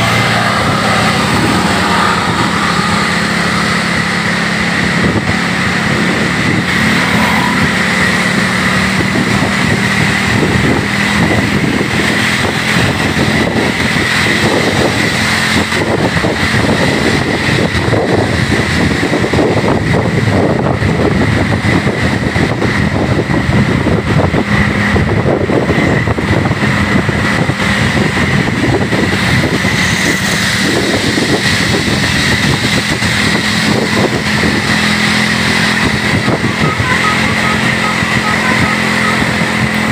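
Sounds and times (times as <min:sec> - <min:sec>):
bus engine running: 0:00.0 - 0:39.9
road noise: 0:00.0 - 0:39.9.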